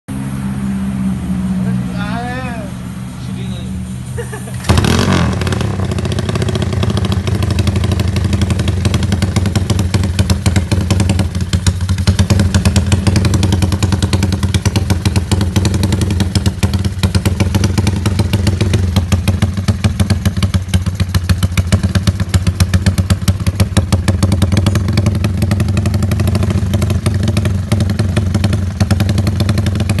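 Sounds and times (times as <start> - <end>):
motorcycle engine idling: 3.8 - 30.0.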